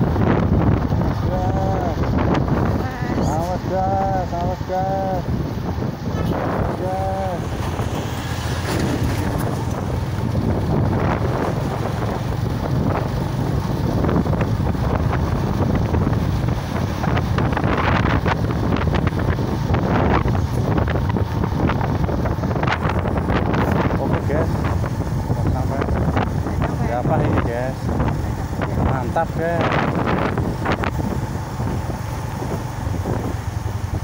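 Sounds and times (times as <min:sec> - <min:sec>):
engine and road noise rumble: 0:00.0 - 0:34.0
wind buffeting microphone: 0:00.0 - 0:34.0.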